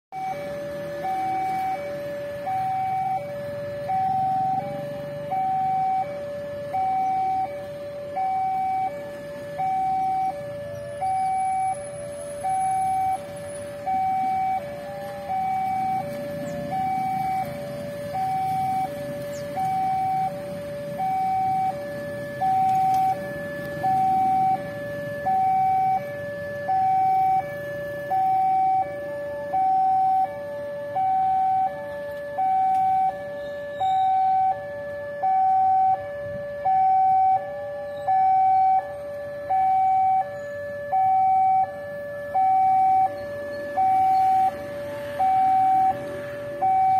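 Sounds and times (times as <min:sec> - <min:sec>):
level crossing two-tone alarm: 0:00.1 - 0:46.9.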